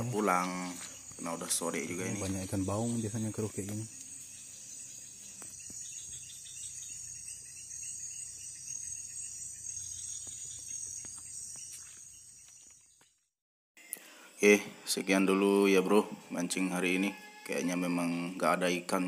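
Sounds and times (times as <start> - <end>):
insects chorus: 0.0 - 13.1, 13.8 - 19.0.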